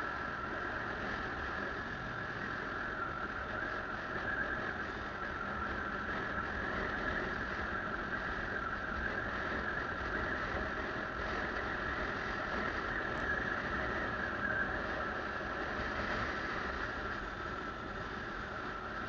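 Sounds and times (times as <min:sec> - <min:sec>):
motorcycle riding: 0:00.0 - 0:19.0.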